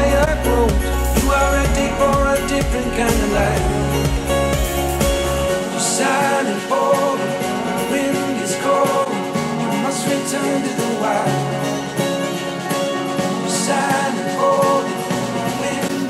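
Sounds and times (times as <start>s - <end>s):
song with guitar and singing: 0.0s - 16.0s.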